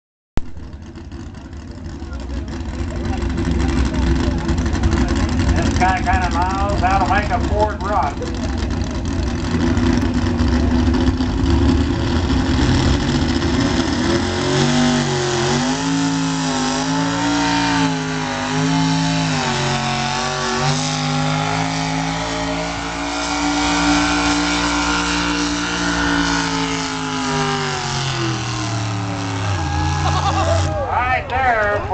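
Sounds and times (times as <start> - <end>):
pickup truck engine running hard: 0.4 - 31.9.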